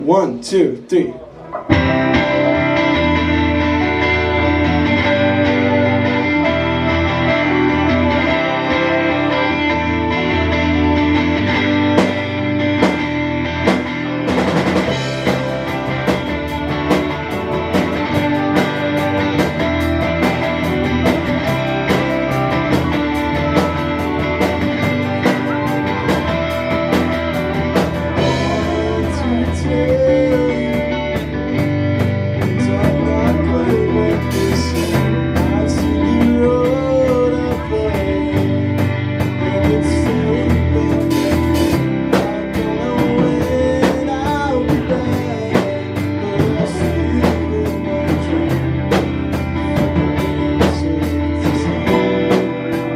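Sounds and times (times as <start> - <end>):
drum kit beat: 0.0 - 52.9
guitars: 0.0 - 52.9.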